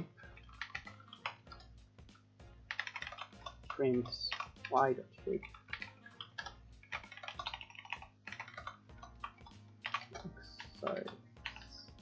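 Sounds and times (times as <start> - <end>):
computer keyboard typing: 0.4 - 1.7, 2.7 - 4.8, 5.5 - 12.0.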